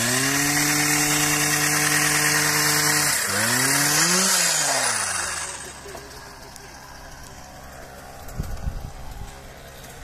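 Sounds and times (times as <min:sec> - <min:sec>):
harvester motor droning: 0:00.0 - 0:10.0.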